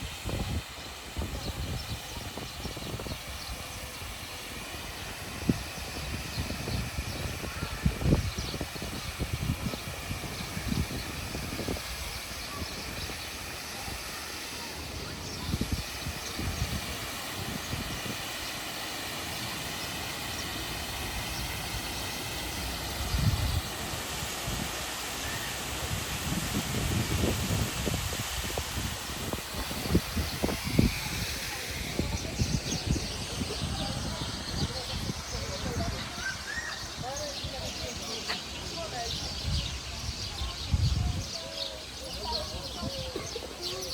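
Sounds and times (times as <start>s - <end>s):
waterfall rushing water: 0.0s - 37.5s
wind buffeting microphone: 0.0s - 43.9s.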